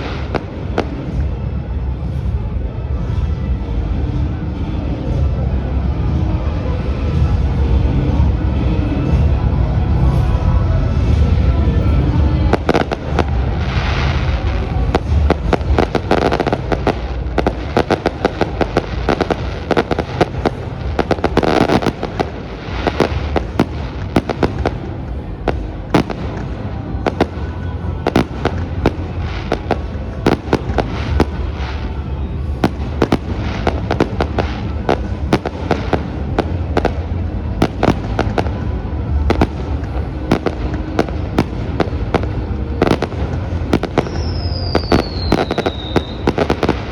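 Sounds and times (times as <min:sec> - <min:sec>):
fireworks cracking and banging: 0:00.0 - 0:02.4, 0:10.0 - 0:46.9
music playing: 0:00.0 - 0:46.9.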